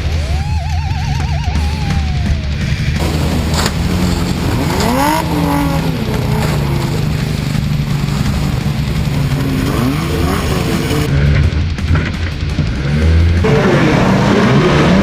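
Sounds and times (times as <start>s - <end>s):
car engine revving: 0.0s - 15.0s
electric guitar music: 0.0s - 15.0s.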